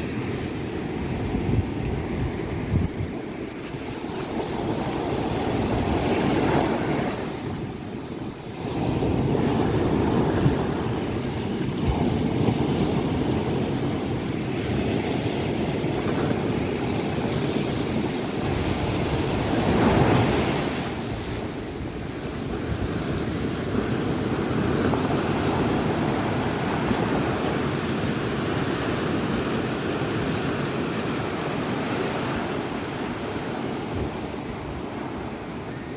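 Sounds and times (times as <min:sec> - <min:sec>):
surf breaking on a beach: 0:00.0 - 0:35.9
wind buffeting the microphone: 0:00.0 - 0:35.9.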